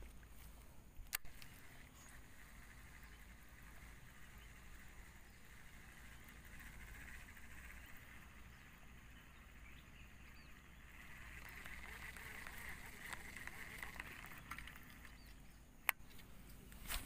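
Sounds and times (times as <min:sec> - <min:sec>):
fishing reel whirring: 0:00.0 - 0:16.4.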